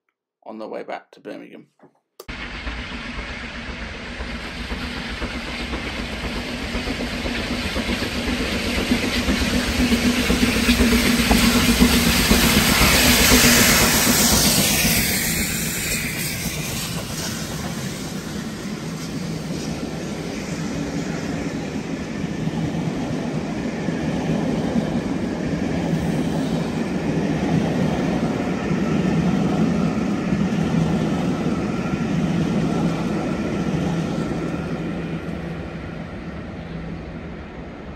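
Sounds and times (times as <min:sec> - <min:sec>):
steam locomotives passing: 0:02.3 - 0:37.9.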